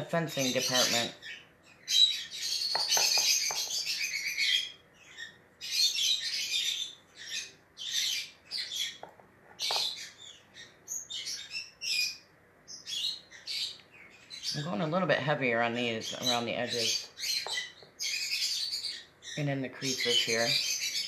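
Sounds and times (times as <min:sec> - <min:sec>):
bird chirping and twittering: 0:00.0 - 0:21.0.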